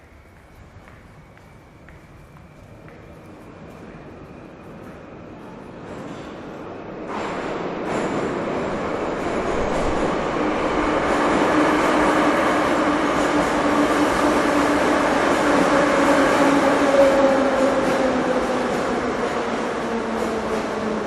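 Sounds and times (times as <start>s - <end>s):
metro train rumbling: 0.0s - 21.0s.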